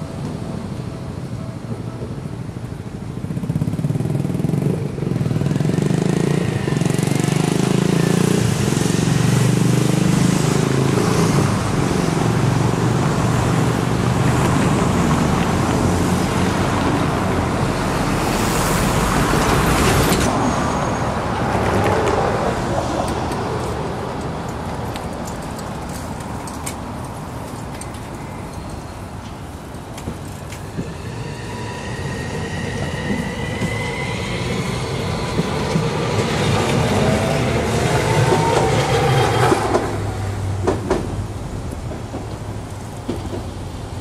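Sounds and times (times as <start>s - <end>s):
cars driving past over tram tracks: 0.0s - 44.0s.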